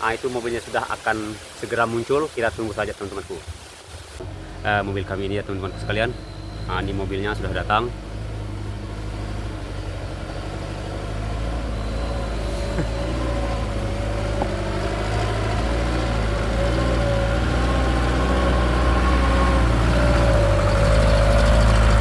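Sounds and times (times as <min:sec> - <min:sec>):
truck engine running with whine: 0:04.2 - 0:22.0.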